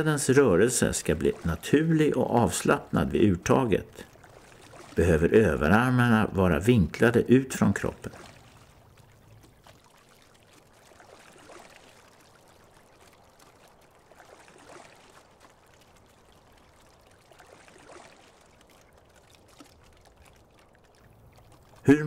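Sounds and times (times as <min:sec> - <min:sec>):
oars swishing through water: 0:00.0 - 0:22.0.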